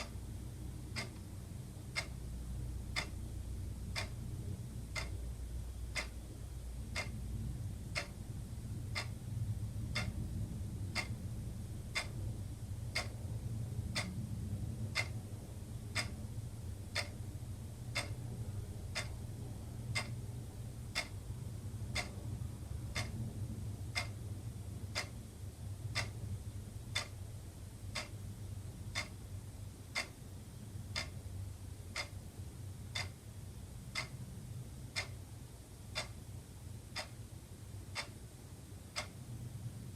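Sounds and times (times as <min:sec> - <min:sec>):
wall clock ticking: 0:00.0 - 0:37.2, 0:37.8 - 0:38.3, 0:38.9 - 0:39.4
low steady hum: 0:00.0 - 0:39.9.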